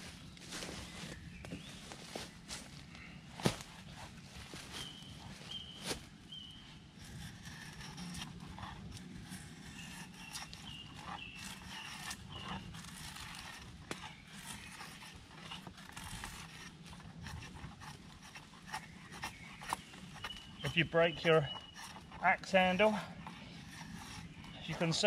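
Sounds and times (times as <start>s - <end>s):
knife scraping wood: 4.8s - 25.0s.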